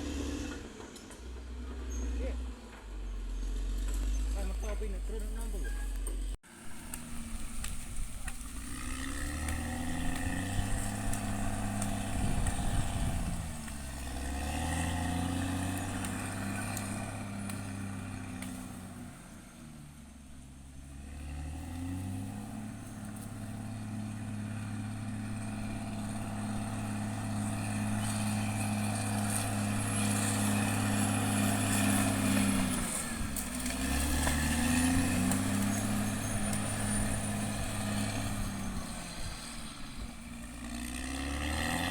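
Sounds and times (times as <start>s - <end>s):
bulldozer diesel engine running: 0.0s - 41.9s.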